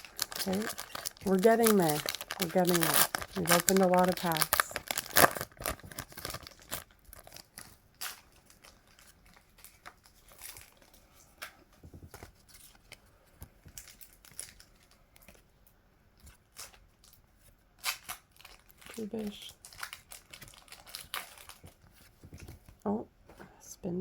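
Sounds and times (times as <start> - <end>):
foil wrappers crinkling and tearing: 0.0 - 11.5, 13.6 - 15.4, 16.2 - 22.6.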